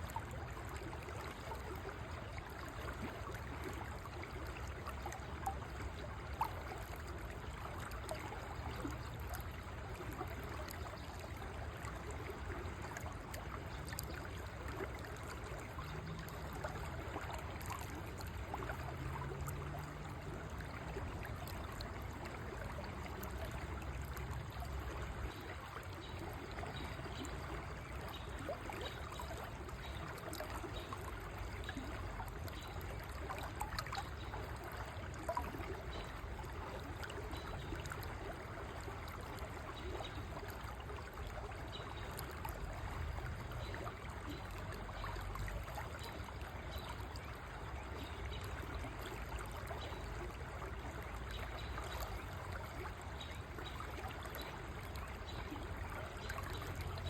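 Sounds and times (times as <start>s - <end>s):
river flowing: 0.0s - 57.0s
water trickling: 0.0s - 57.0s.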